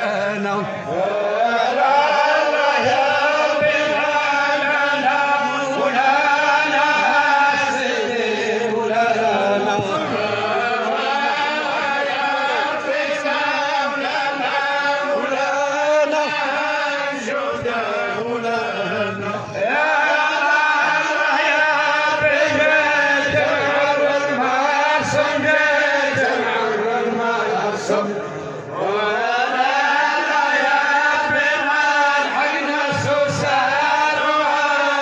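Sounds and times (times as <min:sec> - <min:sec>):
men chanting together: 0:00.0 - 0:35.0.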